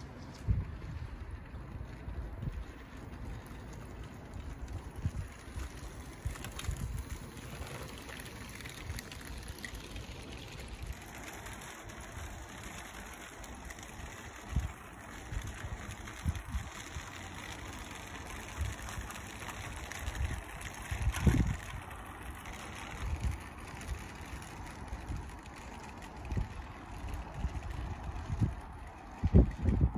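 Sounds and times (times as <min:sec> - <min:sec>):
model train running on track: 0:00.0 - 0:29.9
wind gusting on microphone: 0:00.0 - 0:29.9.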